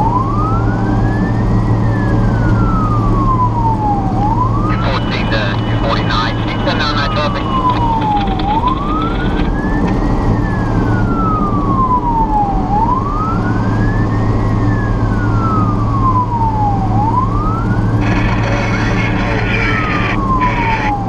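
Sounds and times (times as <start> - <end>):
fire truck siren wailing: 0.0 - 21.0
truck engine drone: 0.1 - 21.0.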